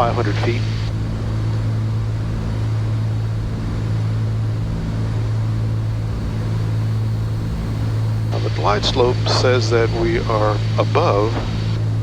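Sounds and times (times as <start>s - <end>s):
aircraft engines and propellers droning: 0.0s - 12.0s.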